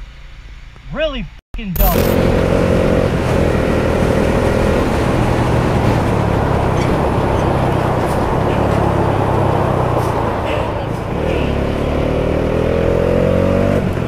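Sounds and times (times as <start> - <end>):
motorcycle engine running: 1.8 - 14.0.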